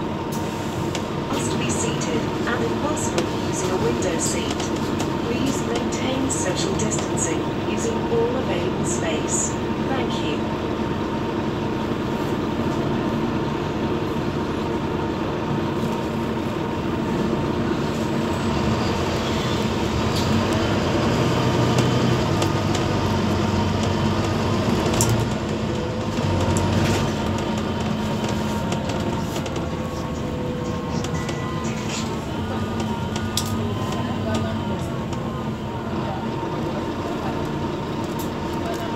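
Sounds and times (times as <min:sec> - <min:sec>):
bus engine drone: 0:00.0 - 0:38.9
road rumble: 0:00.0 - 0:38.9.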